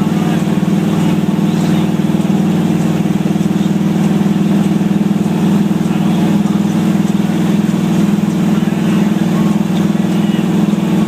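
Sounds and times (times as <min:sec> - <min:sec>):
truck engine running steadily: 0:00.0 - 0:11.0.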